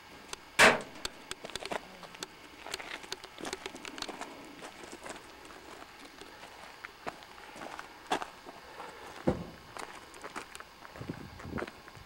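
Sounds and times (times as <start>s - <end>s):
footsteps on gravel: 1.3s - 12.0s.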